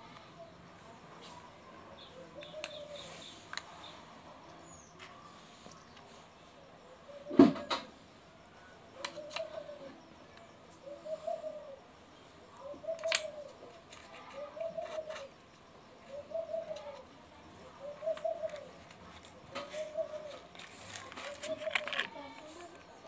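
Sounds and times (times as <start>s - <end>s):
pigeon cooing: 1.2s - 5.3s, 6.6s - 23.0s.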